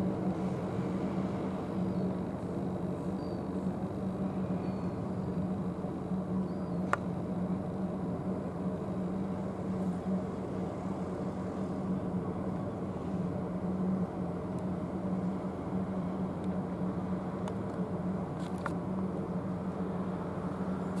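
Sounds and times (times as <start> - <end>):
low mechanical drone: 0.0 - 21.0.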